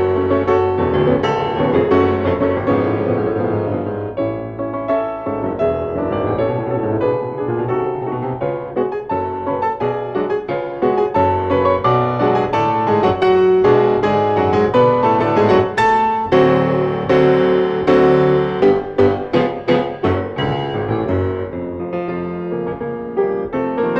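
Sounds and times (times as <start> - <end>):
classical piano music: 0.0 - 23.9.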